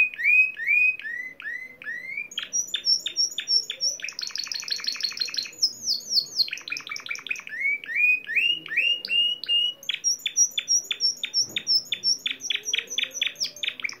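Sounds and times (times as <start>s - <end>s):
canary singing: 0.0s - 14.0s.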